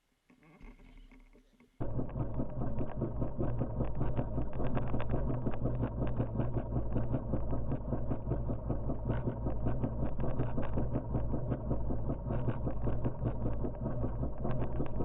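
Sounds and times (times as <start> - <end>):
dirt bike engine idling: 1.8 - 15.0.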